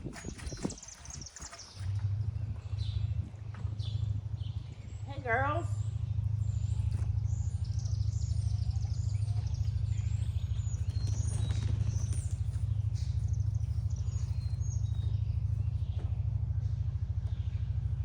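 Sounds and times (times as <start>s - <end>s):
birds chirping: 0.0s - 18.0s
steady low hum: 0.0s - 18.0s.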